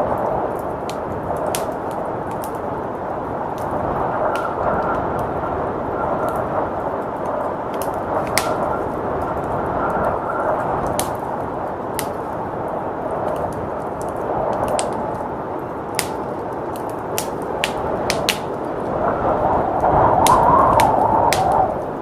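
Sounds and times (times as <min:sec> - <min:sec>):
blizzard wind rushing: 0:00.0 - 0:22.0
wood fire crackling and popping: 0:00.0 - 0:22.0.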